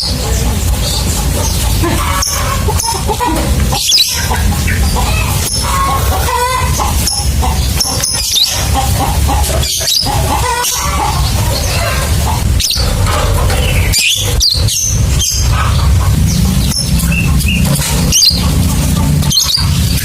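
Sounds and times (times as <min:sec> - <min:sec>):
lovebirds chirping: 0:00.0 - 0:20.0
steady low hum: 0:00.0 - 0:20.0.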